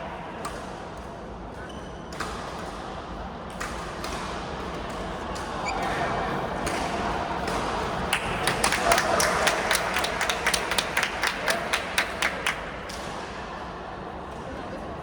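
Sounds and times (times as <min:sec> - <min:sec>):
murmur of voices in a hall: 0:00.0 - 0:15.0.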